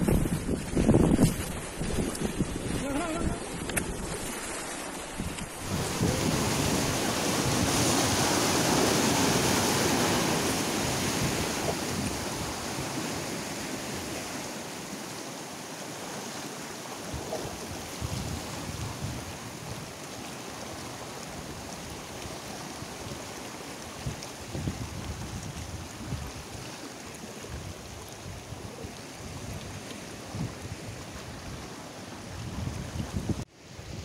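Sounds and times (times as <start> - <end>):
sea surf rushing: 0.0 - 34.0
wind: 0.0 - 34.0.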